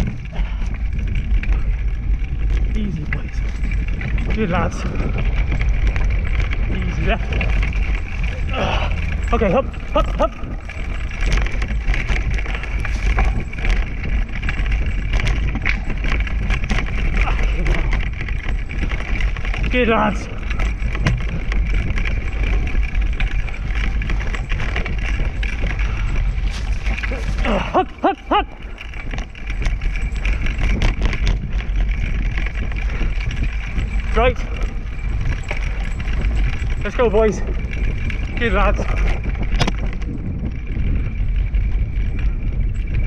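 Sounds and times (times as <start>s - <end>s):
small rattles and clicks: 0.0s - 43.0s
wheels rolling over dirt trail: 0.0s - 43.0s
wind buffeting microphone: 0.0s - 43.0s.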